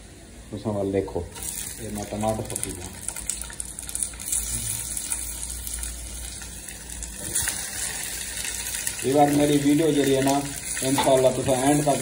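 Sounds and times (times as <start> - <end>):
onions sizzling in hot oil: 1.1 - 12.0.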